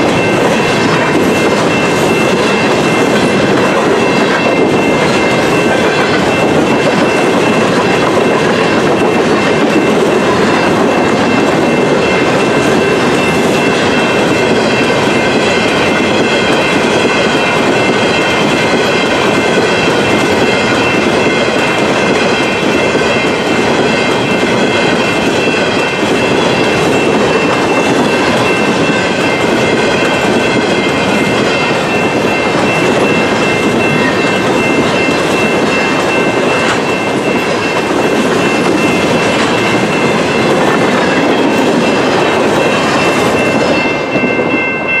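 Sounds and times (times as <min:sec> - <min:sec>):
freight train wheels clattering: 0:00.0 - 0:45.0
level-crossing bell ringing: 0:00.0 - 0:45.0.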